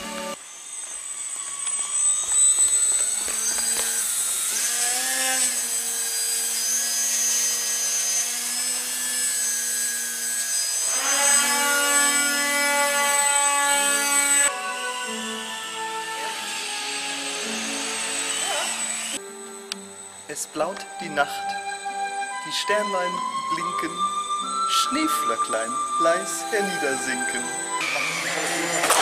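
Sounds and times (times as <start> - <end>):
model airplane motor whining: 0.0 - 29.0.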